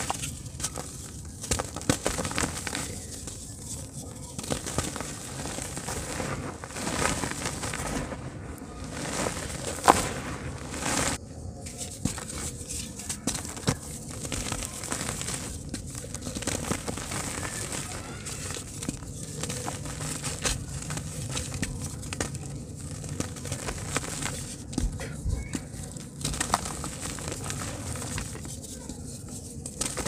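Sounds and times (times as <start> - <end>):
hands crumbling dry dirt: 0.0 - 30.0
soil pouring onto heap: 0.1 - 11.2, 13.3 - 24.6, 26.1 - 28.7.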